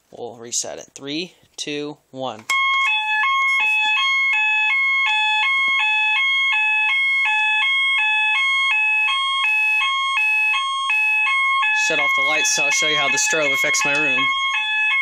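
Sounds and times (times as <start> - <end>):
fire alarm horn hi-lo tone: 2.5 - 15.0.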